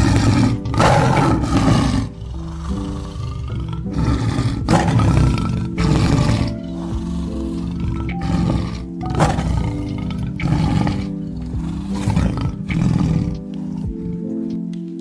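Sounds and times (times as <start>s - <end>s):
wild animal growling: 0.0s - 14.3s
background music with held notes: 0.0s - 15.0s.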